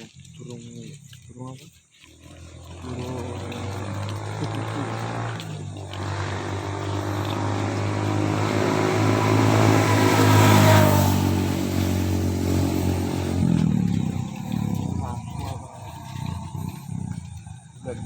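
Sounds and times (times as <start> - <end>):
vehicle engine passing by: 2.2 - 18.0.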